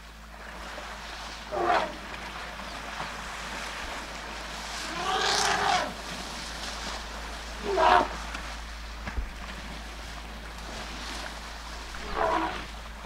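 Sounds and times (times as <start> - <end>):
elephants splashing through water: 0.0 - 13.0.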